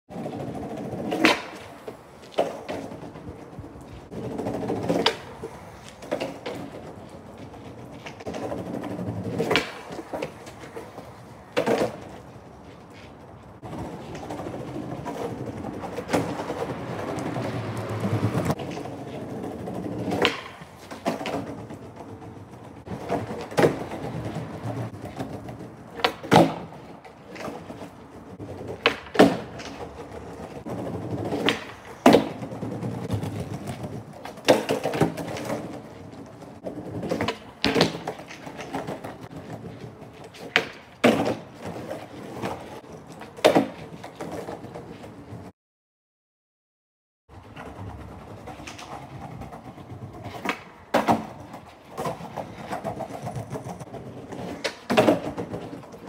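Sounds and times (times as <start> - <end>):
skateboard clacking down: 0.1 - 45.5, 47.3 - 56.0
skateboard wheels rolling on pavement: 0.1 - 45.5, 47.3 - 56.0.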